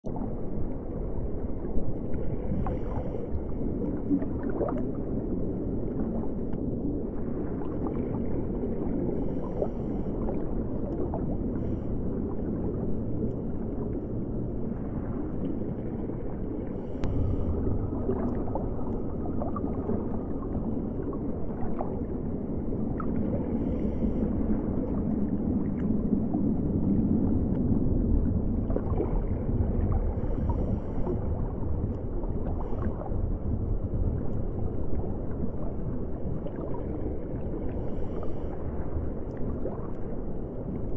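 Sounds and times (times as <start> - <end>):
muffled underwater rumble: 0.0 - 40.9.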